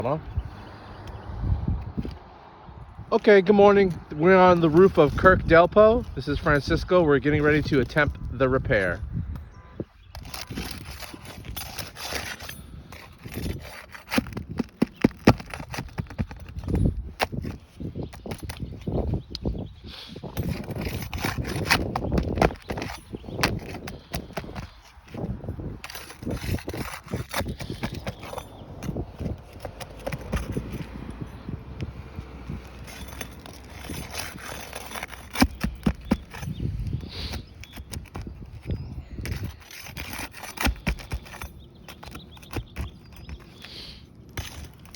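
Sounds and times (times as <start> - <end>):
scraping and rustling on roof: 3.1 - 8.9, 10.1 - 44.9.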